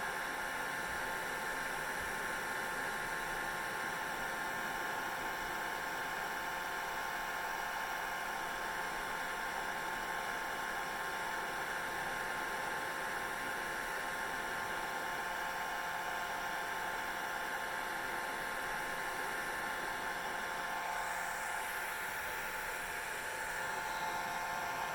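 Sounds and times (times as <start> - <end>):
hair dryer running: 0.0 - 24.9.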